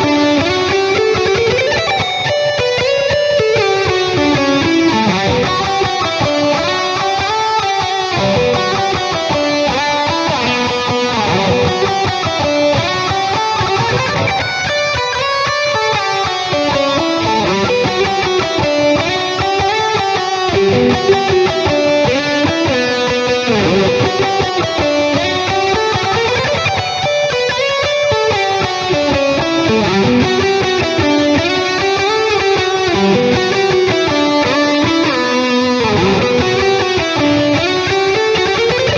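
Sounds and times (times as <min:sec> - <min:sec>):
electric guitar lead line: 0:00.0 - 0:38.9.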